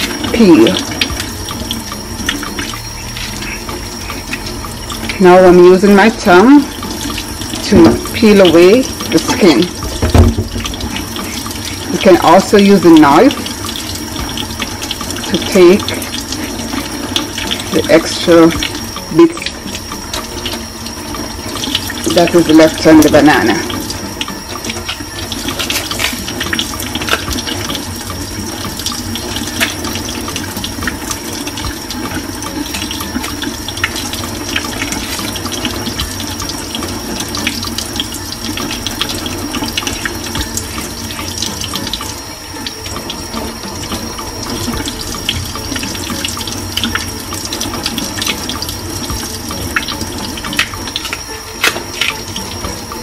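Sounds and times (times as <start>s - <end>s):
tap water splashing on steel sink: 0.0s - 53.0s.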